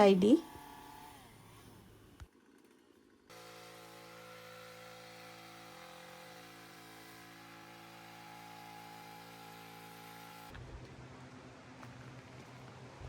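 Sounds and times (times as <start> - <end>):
small engine humming: 0.0 - 10.6.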